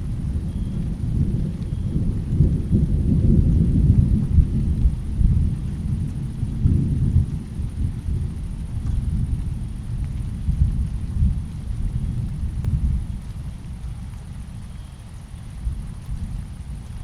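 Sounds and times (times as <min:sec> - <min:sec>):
low rolling thunder: 0:00.0 - 0:17.0
steady rain: 0:00.0 - 0:17.0.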